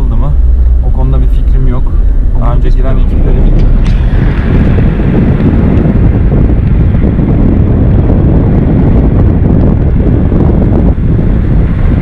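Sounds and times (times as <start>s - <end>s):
truck road noise: 0.0s - 12.0s
wind buffeting microphone: 0.0s - 12.0s.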